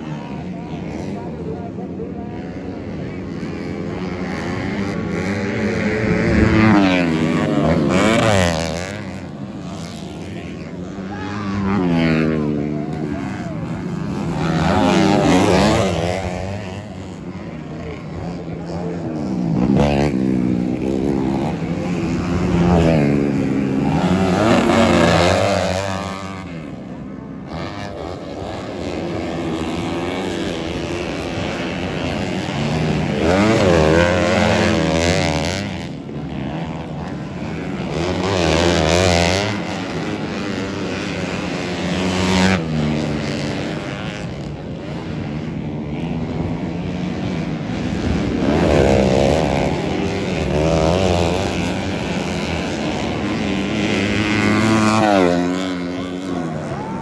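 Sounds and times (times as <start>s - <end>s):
motorcycles revving: 0.0s - 57.0s.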